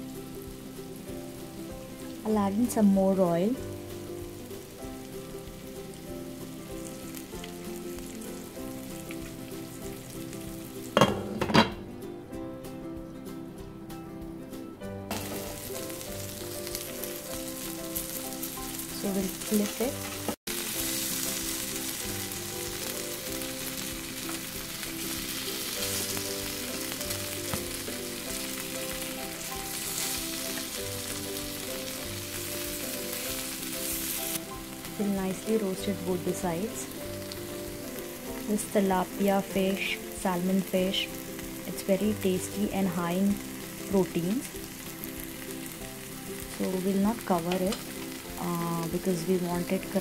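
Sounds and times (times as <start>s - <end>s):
fish sizzling in hot oil: 0.0s - 11.5s, 15.1s - 50.0s
background music: 0.0s - 50.0s.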